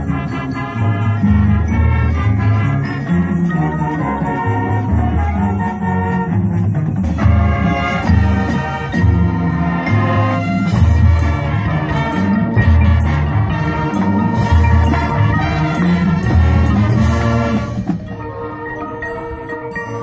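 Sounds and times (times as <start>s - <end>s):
timpani: 0.0s - 19.9s
mallet keyboards: 0.0s - 20.0s
marching band playing: 0.0s - 20.0s.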